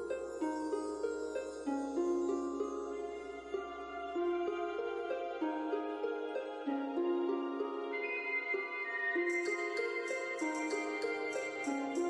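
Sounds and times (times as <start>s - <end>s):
cheerful light melody: 0.0s - 12.0s.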